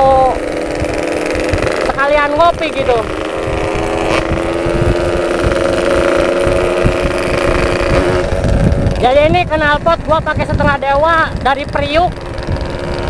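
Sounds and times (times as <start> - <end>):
two-stroke motorcycle engine: 0.0 - 13.0
wind rumble on microphone: 0.0 - 13.0.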